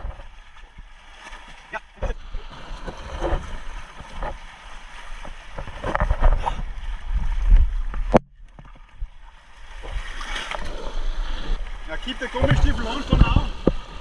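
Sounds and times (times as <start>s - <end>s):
water sloshing around rocks: 0.0s - 14.0s
wind rumbling on microphone: 2.0s - 14.0s.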